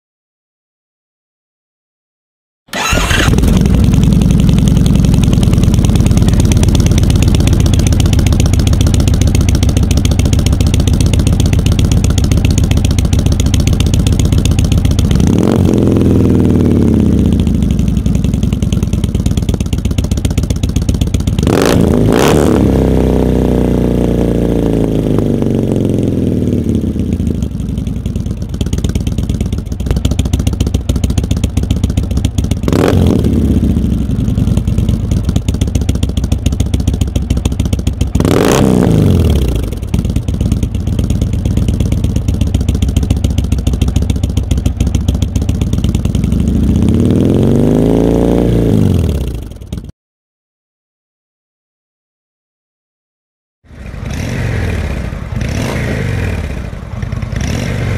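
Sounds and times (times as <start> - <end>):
motorcycle engine revving: 2.7 - 49.9, 53.6 - 57.9.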